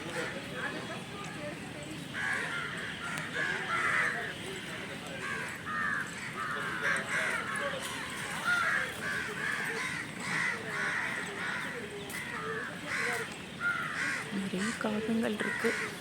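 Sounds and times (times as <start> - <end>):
crows cawing: 2.1 - 16.0.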